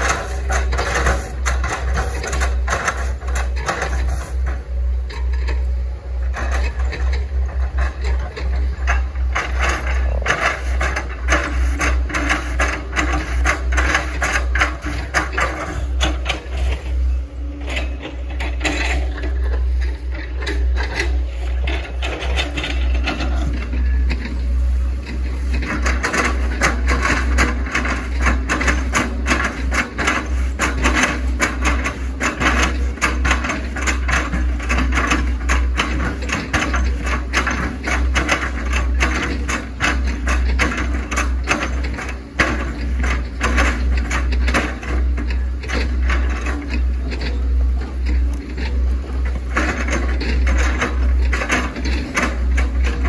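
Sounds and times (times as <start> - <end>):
rapid clatter of clicks and knocks: 0.0 - 17.0, 17.6 - 53.0
excavator engine drone: 0.0 - 53.0.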